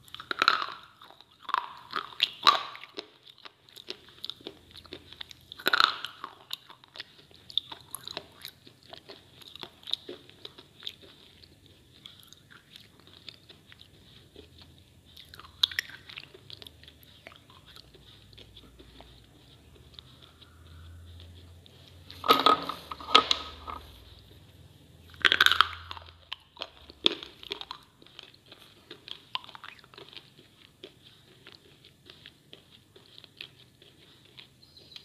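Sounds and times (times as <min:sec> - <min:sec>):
slate being chewed: 0:00.0 - 0:35.0.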